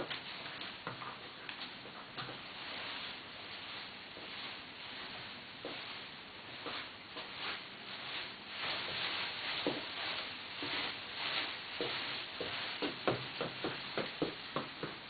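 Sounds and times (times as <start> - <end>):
ribbons rustling and swishing: 0.0 - 15.0.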